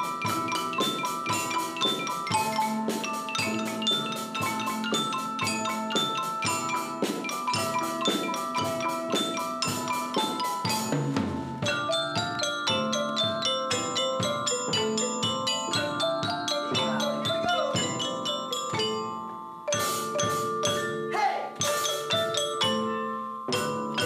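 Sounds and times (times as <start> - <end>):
mallet percussion playing a tune: 0.0 - 24.0.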